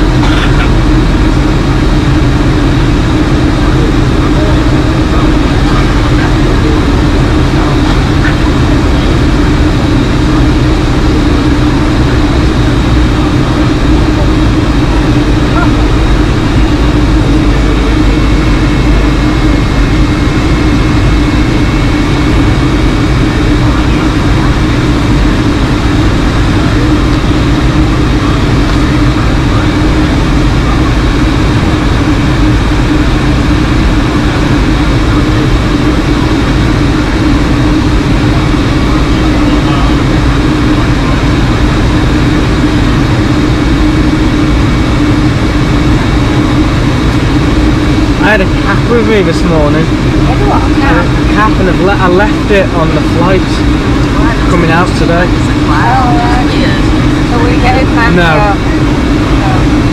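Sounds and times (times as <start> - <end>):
airliner cabin drone: 0.0 - 59.9
faint high whine: 0.0 - 59.9.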